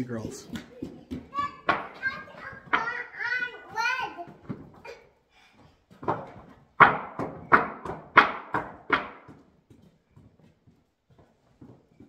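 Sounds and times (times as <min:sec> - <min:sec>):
footsteps on wooden boards: 0:00.1 - 0:12.0.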